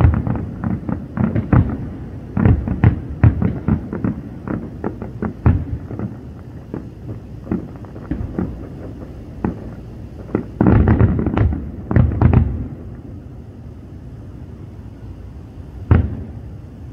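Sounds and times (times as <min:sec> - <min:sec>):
fireworks booming: 0:00.0 - 0:16.9.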